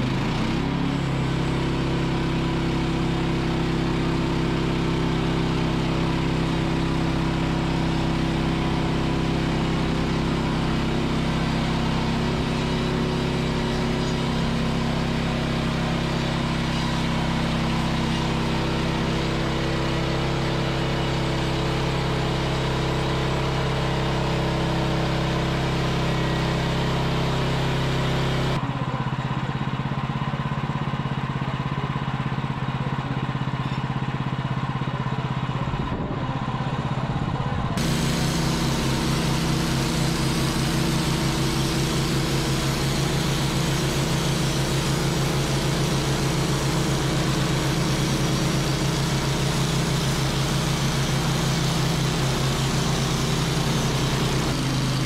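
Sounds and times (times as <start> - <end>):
sawmill engines running: 0.0 - 55.0.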